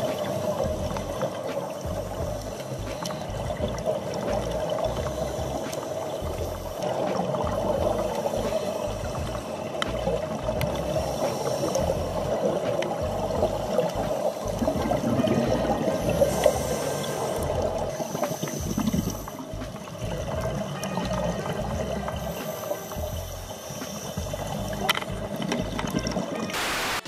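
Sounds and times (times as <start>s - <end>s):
underwater bubbles gurgling: 0.0s - 26.6s.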